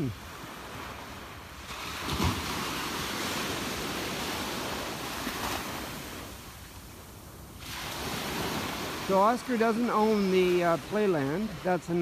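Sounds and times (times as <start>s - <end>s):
waves breaking on sand: 0.0s - 12.0s.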